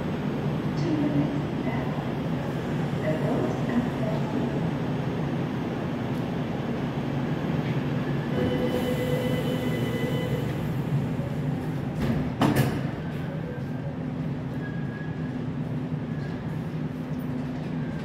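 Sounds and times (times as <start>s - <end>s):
train equipment low hum: 0.0s - 18.0s.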